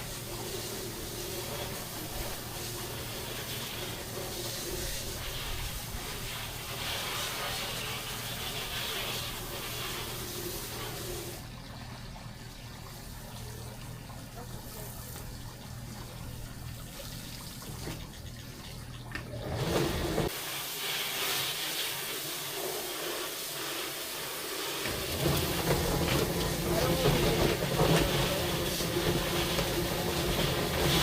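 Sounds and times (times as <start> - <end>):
water running and splashing: 0.0 - 31.0.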